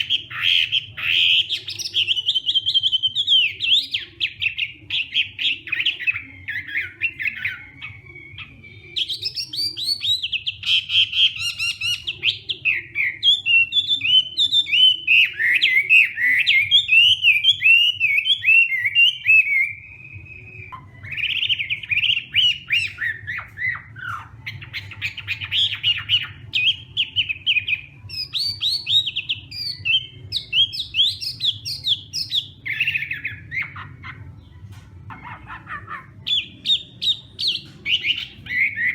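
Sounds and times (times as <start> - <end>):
bird singing whistled phrases: 0.0 - 34.2, 35.1 - 38.9.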